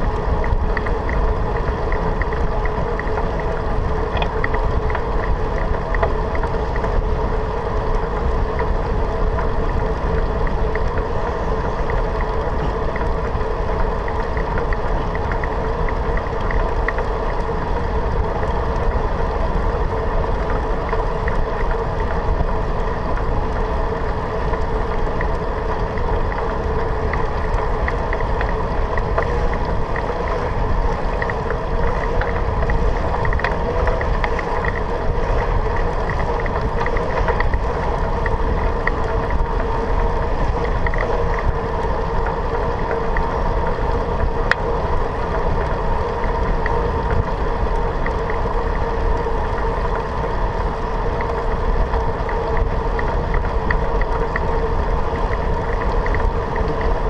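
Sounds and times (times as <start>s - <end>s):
bicycle tyres rumbling on asphalt: 0.0s - 57.0s
steady hum: 0.0s - 57.0s.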